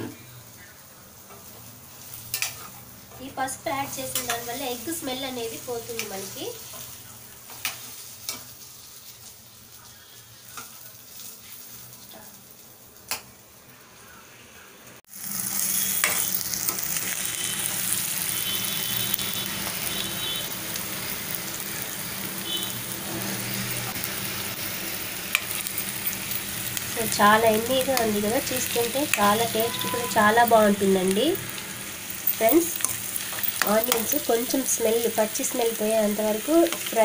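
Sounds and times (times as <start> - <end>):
eggs sizzling in a pan: 0.0 - 37.0.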